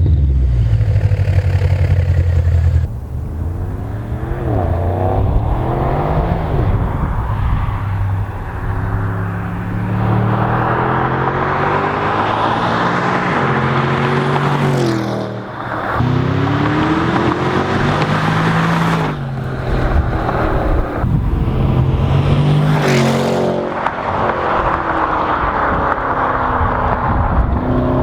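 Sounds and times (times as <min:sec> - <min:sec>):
loud car engine under power: 0:00.0 - 0:28.0.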